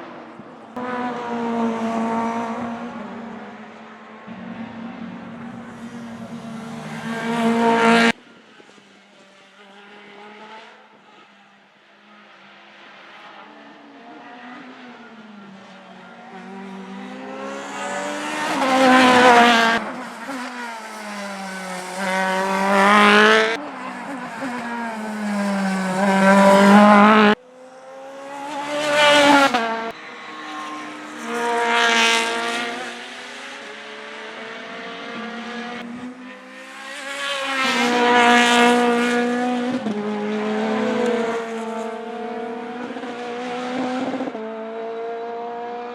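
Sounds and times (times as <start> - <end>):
racing cars passing at speed: 0.0 - 45.9.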